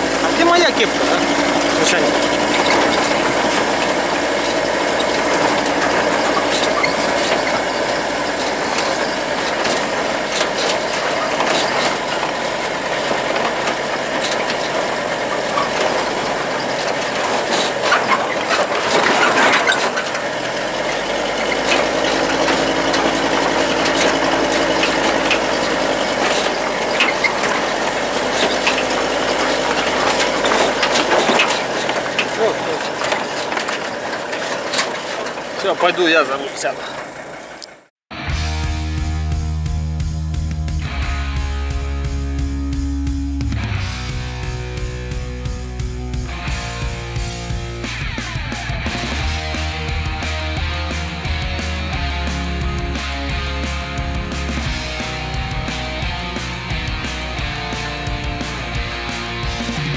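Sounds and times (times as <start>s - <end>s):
engine clicks and rattles: 0.0s - 38.0s, 39.2s - 59.9s
truck engine running: 0.0s - 59.9s.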